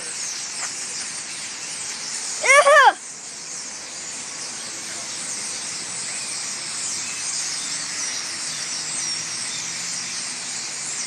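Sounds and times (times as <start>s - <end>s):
flock of birds twittering: 0.0s - 11.0s.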